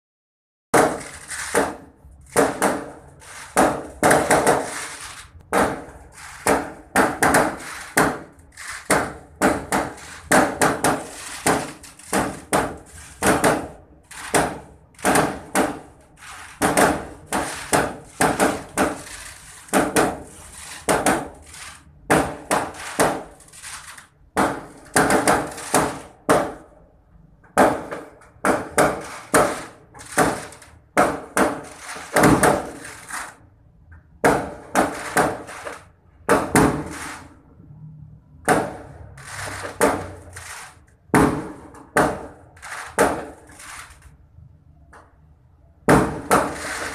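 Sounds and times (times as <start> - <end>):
fireworks exploding: 0.8 - 26.4, 28.4 - 33.4, 34.6 - 37.3, 38.5 - 44.0, 46.2 - 46.9.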